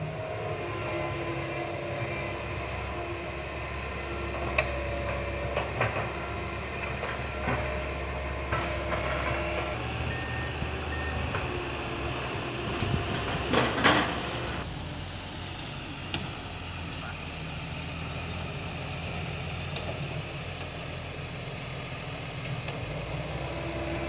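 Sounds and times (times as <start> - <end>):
excavator running: 0.0 - 24.0.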